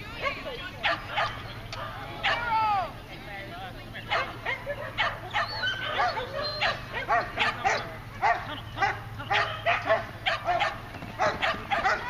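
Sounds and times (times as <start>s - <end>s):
dog barking rapidly: 0.2s - 2.6s, 4.1s - 12.0s.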